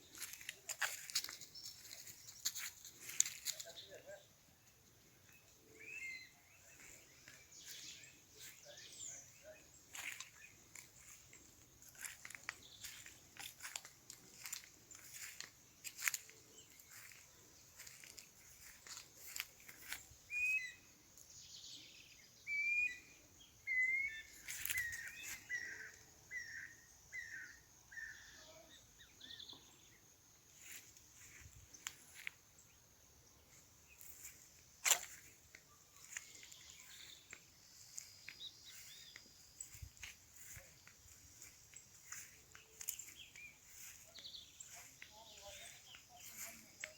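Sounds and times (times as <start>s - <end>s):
bird chirps: 5.2s - 30.0s, 33.4s - 46.9s.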